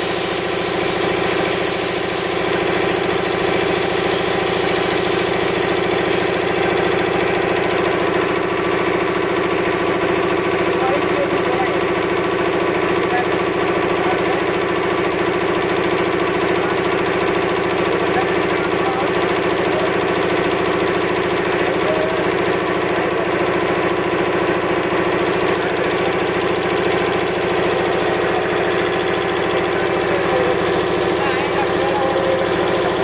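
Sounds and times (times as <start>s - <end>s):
air compressor running: 0.0s - 33.0s.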